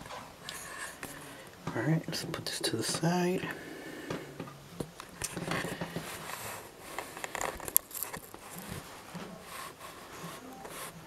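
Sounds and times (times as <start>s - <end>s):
rustling and scraping: 0.0s - 11.0s.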